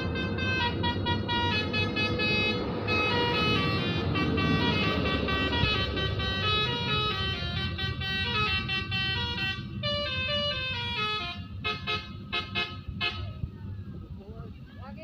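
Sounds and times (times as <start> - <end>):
musical air horn melody: 0.0 - 13.5
low engine rumble: 0.0 - 15.0.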